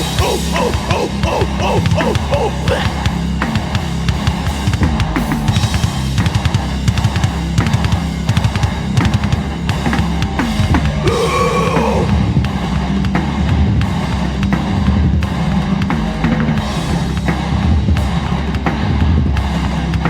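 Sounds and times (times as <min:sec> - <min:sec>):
busy drum kit: 0:00.0 - 0:20.0
hardcore punk instrumental: 0:00.0 - 0:20.0.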